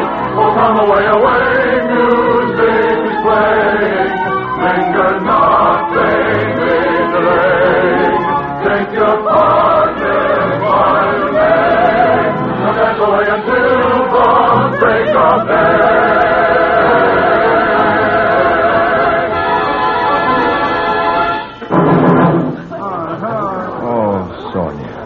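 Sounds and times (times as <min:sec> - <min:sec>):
choir singing with orchestra: 0:00.0 - 0:22.6.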